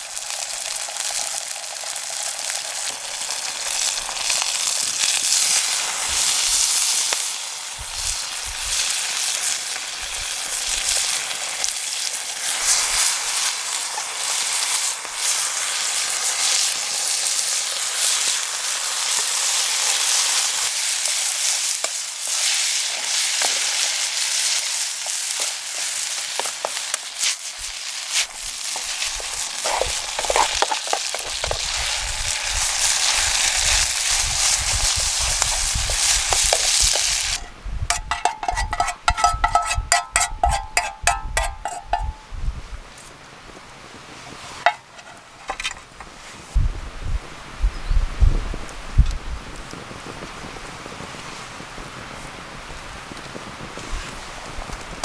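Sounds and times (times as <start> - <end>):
food sizzling in hot oil: 0.0 - 42.6, 44.1 - 46.8.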